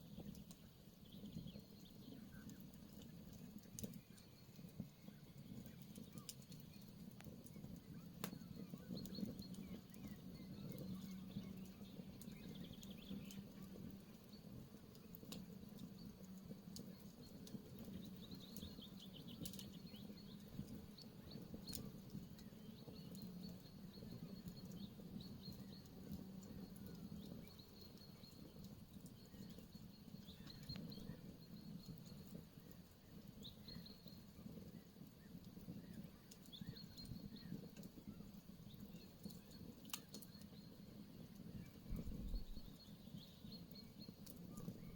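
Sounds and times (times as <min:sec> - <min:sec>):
campfire crackling: 0:00.0 - 0:44.9
small birds chirping: 0:00.0 - 0:44.9.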